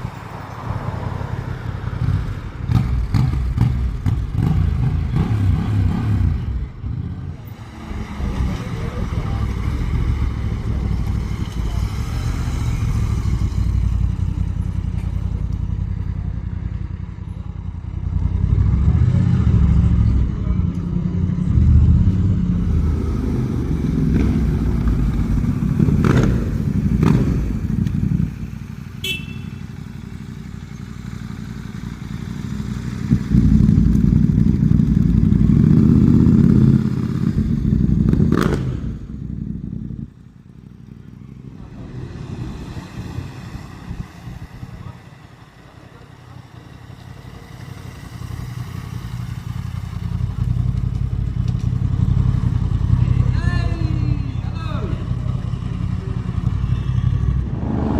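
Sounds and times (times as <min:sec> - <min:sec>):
motorcycle engines rumbling: 0:00.0 - 0:57.9.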